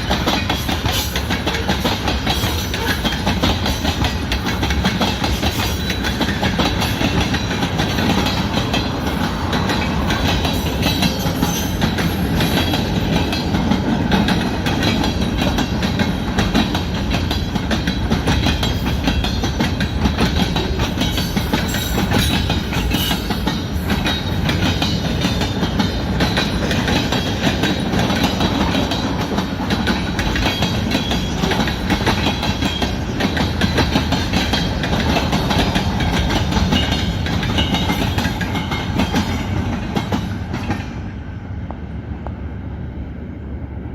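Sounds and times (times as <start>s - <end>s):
wheels clacking over rail joints: 0.0s - 41.1s
freight train rumbling: 0.0s - 43.9s.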